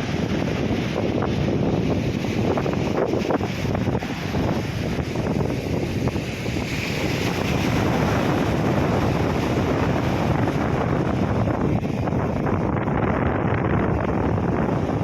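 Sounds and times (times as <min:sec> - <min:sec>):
sea waves breaking on beach: 0:00.0 - 0:15.0
wind buffeting microphone: 0:00.0 - 0:15.0.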